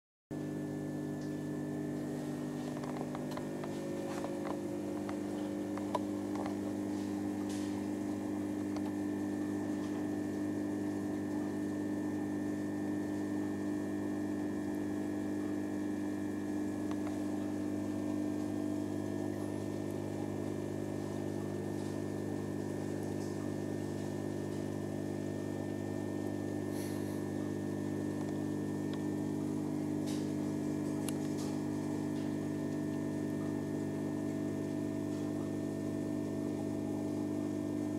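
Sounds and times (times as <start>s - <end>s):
aquarium pump humming: 0.3s - 37.9s.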